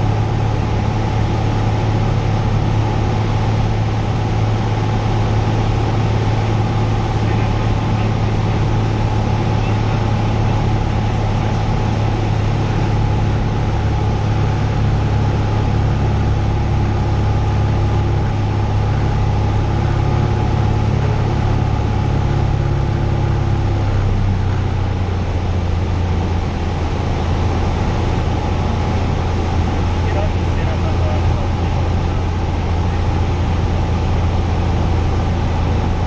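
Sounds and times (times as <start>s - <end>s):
airplane engine droning: 0.0s - 36.0s.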